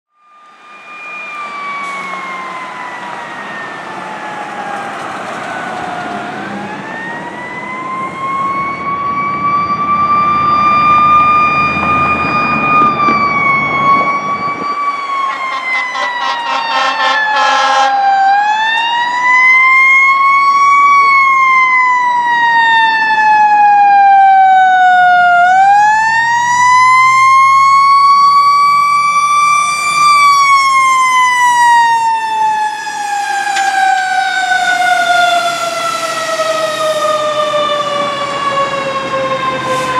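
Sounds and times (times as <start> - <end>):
fire truck siren wailing: 0.1 - 39.9.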